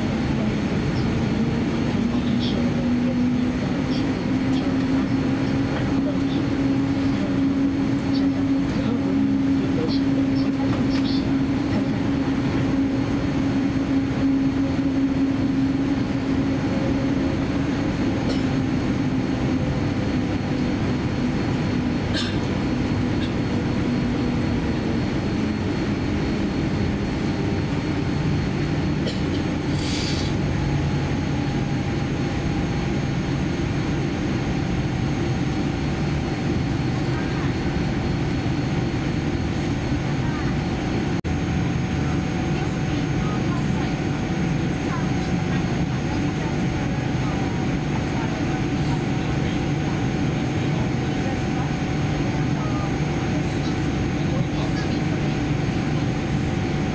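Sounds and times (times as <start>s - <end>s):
airplane cabin noise while taxiing: 0.0s - 56.9s.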